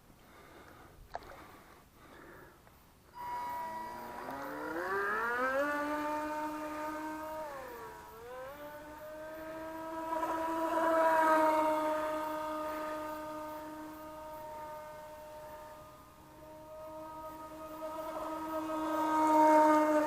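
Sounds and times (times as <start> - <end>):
electric motor whining: 3.2 - 20.0.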